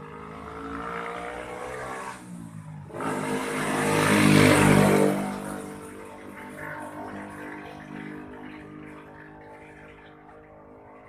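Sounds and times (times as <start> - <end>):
motor vehicle engine accelerating: 0.0 - 11.0.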